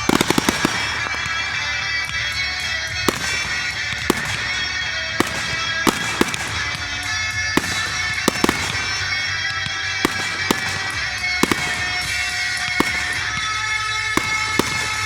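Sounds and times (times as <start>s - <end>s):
fireworks banging: 0.0s - 15.0s
music: 0.0s - 15.0s.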